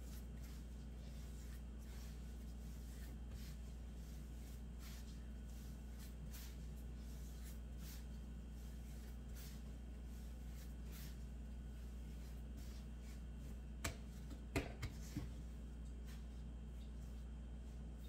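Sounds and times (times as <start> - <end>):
hands kneading dough: 0.0 - 18.0
steady low hum: 0.0 - 18.0.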